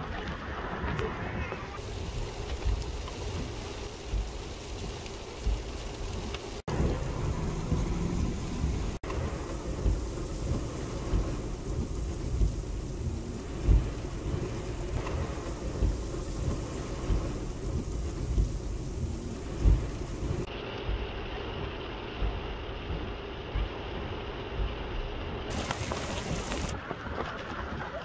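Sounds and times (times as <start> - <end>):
heavy rain on asphalt: 0.0 - 28.0
low rumbles and gusts: 0.0 - 28.0.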